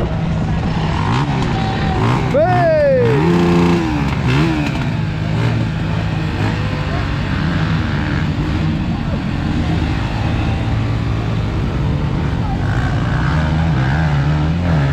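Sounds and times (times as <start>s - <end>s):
dirt bike engines revving: 0.0s - 14.9s.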